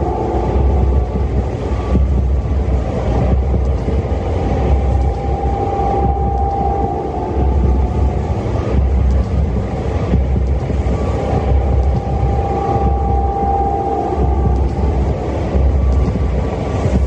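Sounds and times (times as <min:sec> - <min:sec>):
low rumble swelling unevenly: 0:00.0 - 0:17.0
noisy haze: 0:00.0 - 0:17.0.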